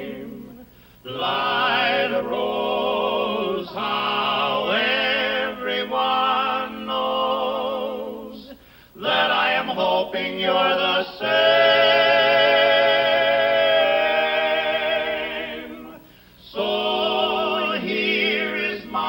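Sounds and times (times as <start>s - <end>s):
male quartet singing in harmony: 0.0s - 19.0s.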